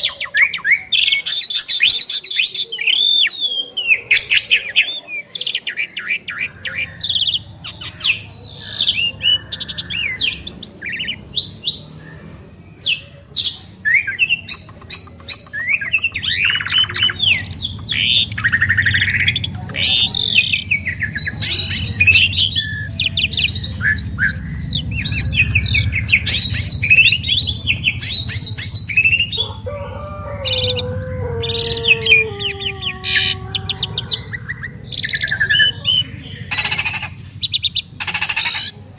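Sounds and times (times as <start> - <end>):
starlings chirping and trilling: 0.0 - 38.9.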